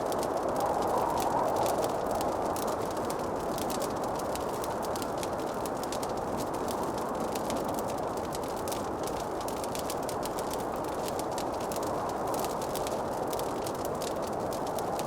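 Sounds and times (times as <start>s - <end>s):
wood fire pops and snaps: 0.0s - 15.0s.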